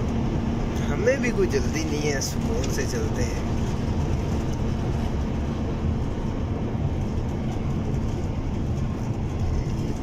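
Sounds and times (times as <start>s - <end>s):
truck diesel engine drone: 0.0s - 10.0s.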